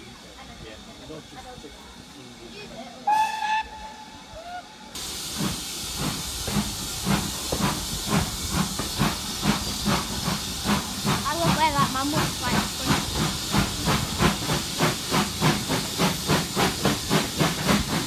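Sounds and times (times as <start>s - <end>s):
steam hiss: 0.0s - 18.0s
steam locomotive exhaust chuffs: 3.0s - 18.0s.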